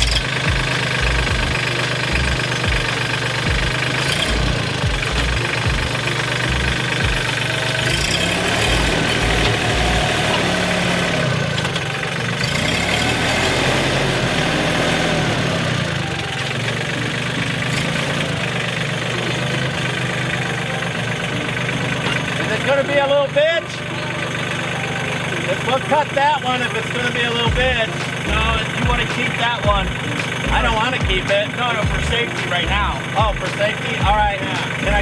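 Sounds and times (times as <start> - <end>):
low knocking pulses: 0.0 - 22.4, 27.4 - 35.0
heavy equipment engine running: 0.0 - 35.0.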